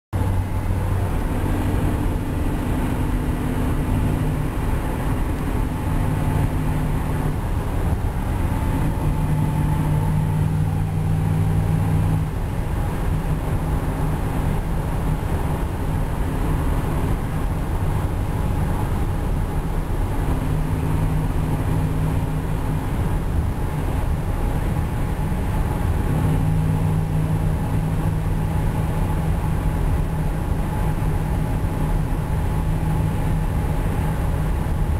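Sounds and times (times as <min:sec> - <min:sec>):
exhaust drone: 0:00.2 - 0:34.9
tyre and road noise: 0:00.2 - 0:34.9.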